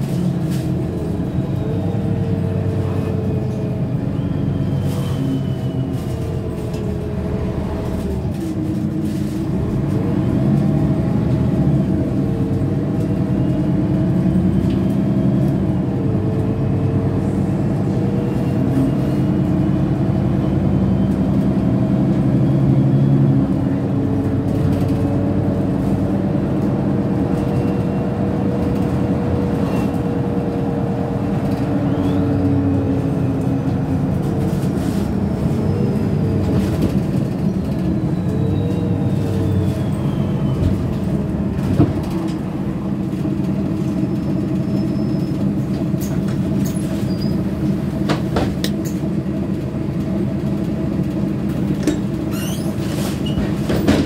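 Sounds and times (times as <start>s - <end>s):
bus engine humming: 0.0s - 54.0s.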